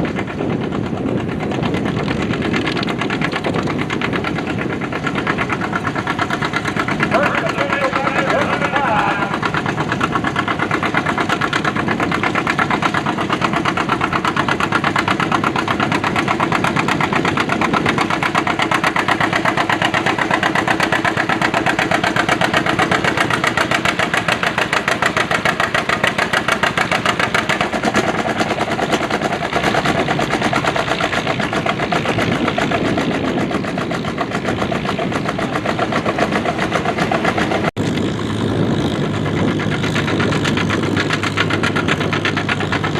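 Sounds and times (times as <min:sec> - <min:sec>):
tractor engine running hard: 0:00.0 - 0:42.9.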